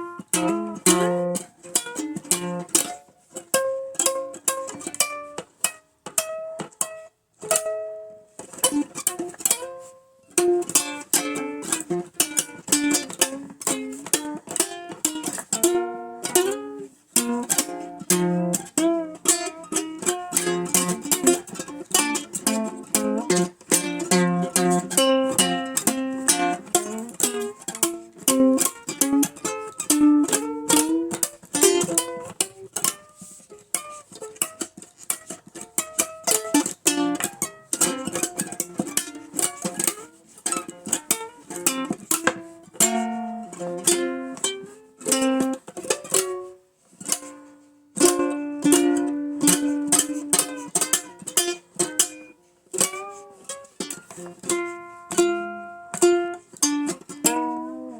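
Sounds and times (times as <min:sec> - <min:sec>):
ukulele blues picking: 0:00.0 - 0:57.9.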